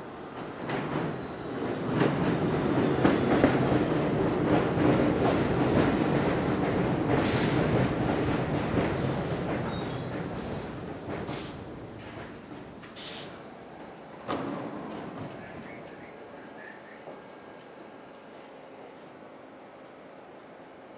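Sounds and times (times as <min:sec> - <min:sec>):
subway train rumbling past: 0:00.0 - 0:20.9.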